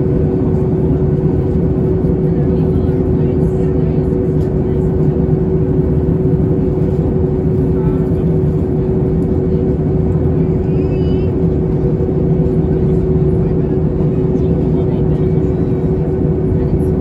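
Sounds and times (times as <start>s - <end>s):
aircraft engines and airflow rushing: 0.0s - 17.0s
droning hum: 0.0s - 17.0s.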